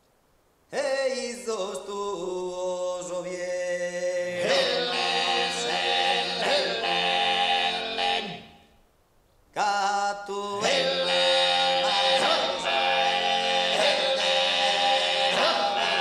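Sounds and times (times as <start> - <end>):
male voices singing a cappella: 0.7 - 8.6, 9.6 - 16.0.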